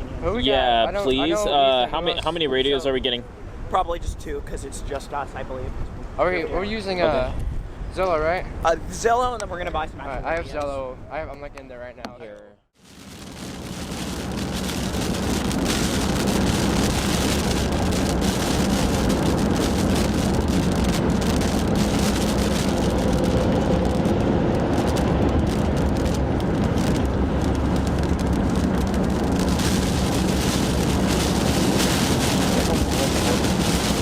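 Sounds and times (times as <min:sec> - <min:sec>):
car road and engine noise: 0:00.0 - 0:11.1, 0:12.8 - 0:34.0.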